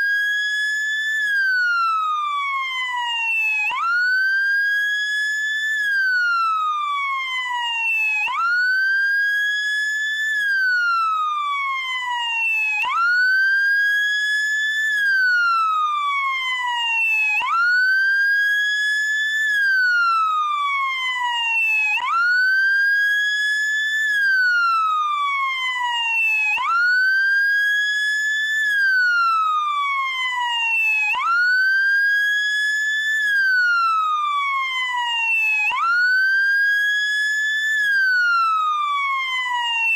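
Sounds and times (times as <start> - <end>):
electronic wail siren: 0.0 - 39.9.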